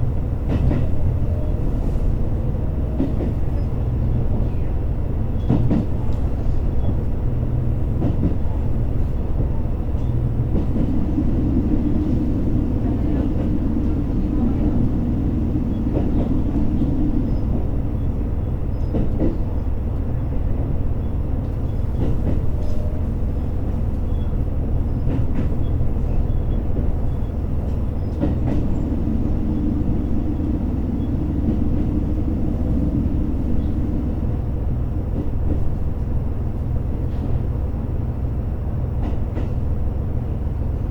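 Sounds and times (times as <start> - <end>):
train engine drone: 0.0 - 40.9
rail clicks: 0.4 - 1.6, 2.9 - 37.6, 38.9 - 39.8.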